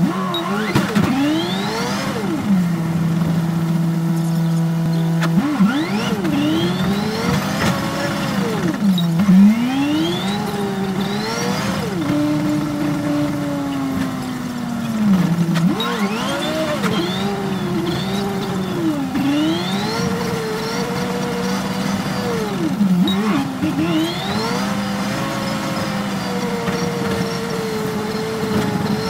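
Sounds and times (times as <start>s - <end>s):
bus engine revving: 0.0s - 29.0s.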